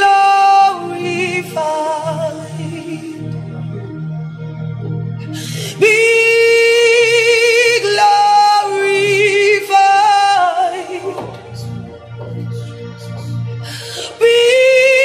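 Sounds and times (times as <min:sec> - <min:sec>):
gospel worship music: 0:00.0 - 0:15.0.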